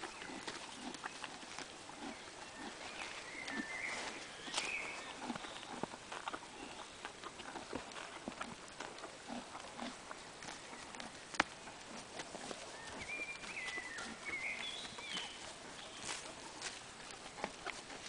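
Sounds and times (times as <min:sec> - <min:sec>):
horse hoof steps on grass: 0:00.0 - 0:18.0.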